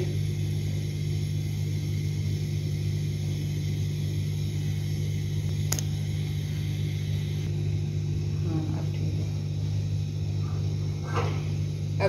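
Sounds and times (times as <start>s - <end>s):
pot boiling on gas burner: 0.0s - 12.0s.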